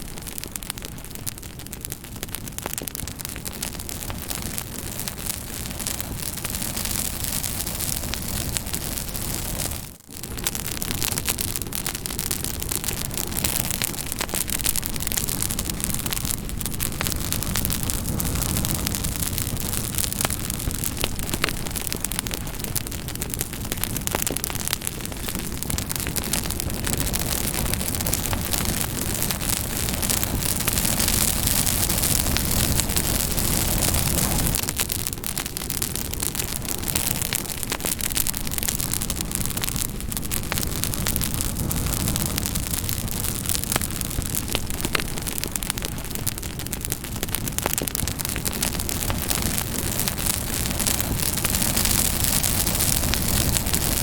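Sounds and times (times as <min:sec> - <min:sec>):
campfire flames hissing: 0:00.0 - 0:54.0
fire crackling and popping: 0:00.0 - 0:54.0.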